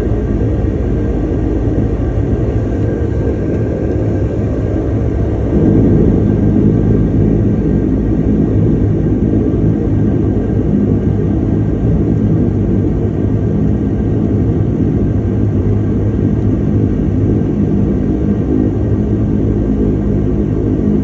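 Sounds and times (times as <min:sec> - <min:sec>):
turboprop engine drone in cabin: 0:00.0 - 0:21.0.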